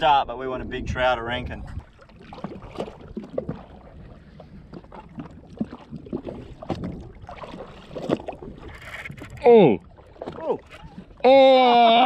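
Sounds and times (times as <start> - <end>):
waves lapping against a hull: 0.0 - 12.0.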